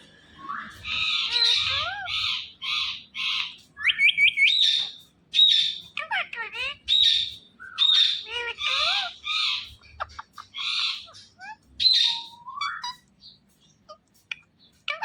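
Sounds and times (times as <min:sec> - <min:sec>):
parakeet screeching and chirping: 0:00.5 - 0:15.0.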